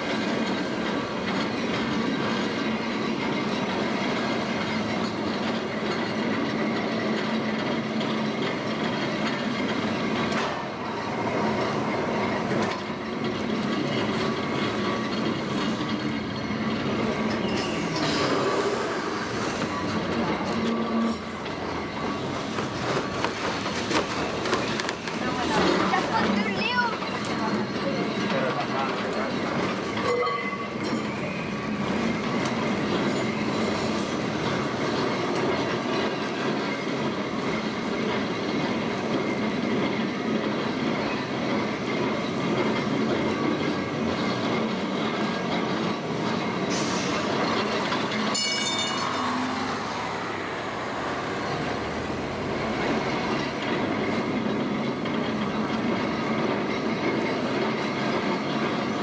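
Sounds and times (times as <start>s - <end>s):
tram rumbling and rattling on rails: 0.0s - 59.0s.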